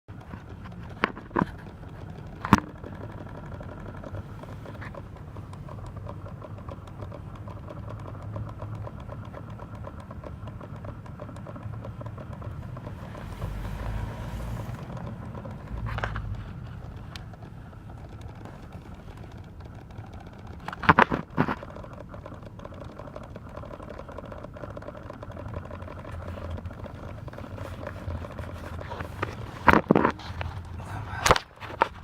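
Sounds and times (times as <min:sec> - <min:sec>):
engine idling with ticking knock: 0:00.0 - 0:32.0.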